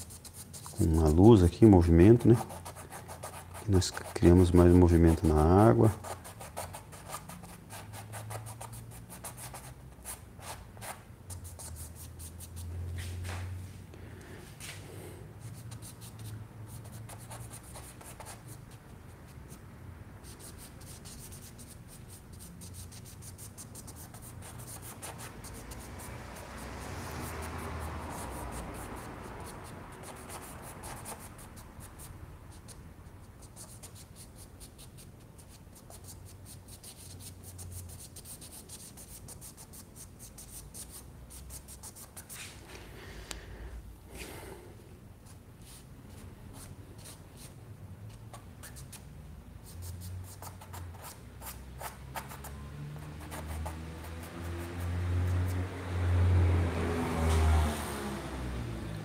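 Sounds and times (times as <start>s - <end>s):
bristle brush scratching on canvas: 0.0s - 13.4s, 15.4s - 19.6s, 20.2s - 42.8s, 45.2s - 55.7s.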